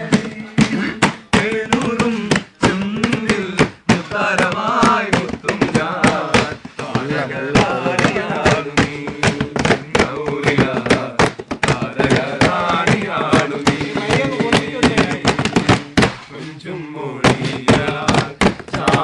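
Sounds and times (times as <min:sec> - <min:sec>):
hands slapping wooden tabletop: 0:00.0 - 0:16.5, 0:17.2 - 0:19.0
men singing in rhythm: 0:00.0 - 0:19.0.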